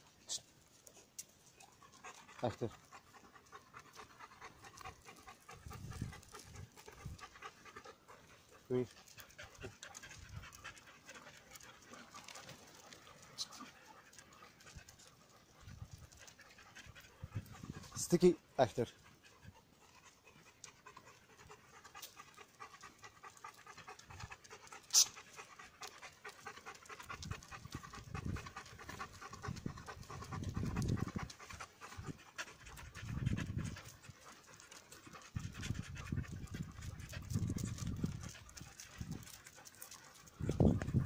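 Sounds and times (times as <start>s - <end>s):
dogs panting: 0.0s - 41.0s.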